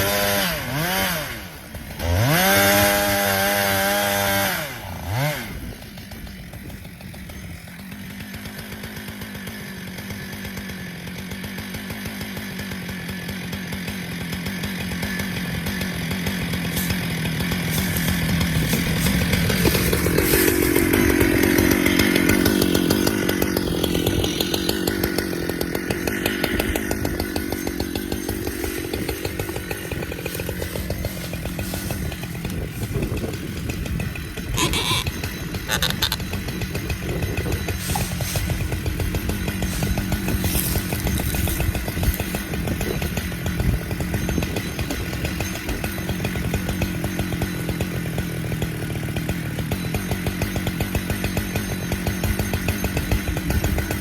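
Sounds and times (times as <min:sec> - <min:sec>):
chainsaw engine running: 0:00.0 - 0:54.0.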